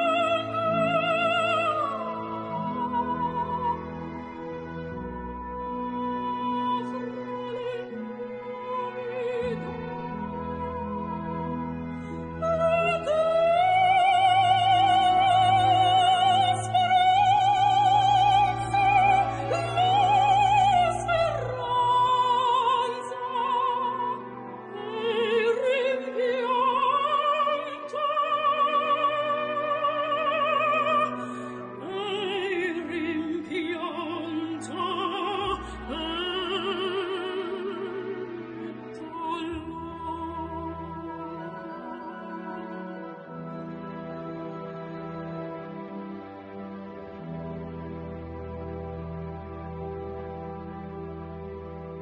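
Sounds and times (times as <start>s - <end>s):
classical accompaniment: 0.0s - 52.0s
operatic singing: 0.0s - 52.0s.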